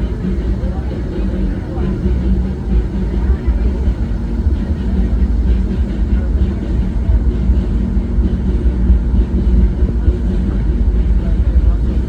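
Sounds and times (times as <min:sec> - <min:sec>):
train cars rattling on track: 0:00.0 - 0:12.0
train rumbling: 0:00.0 - 0:12.0.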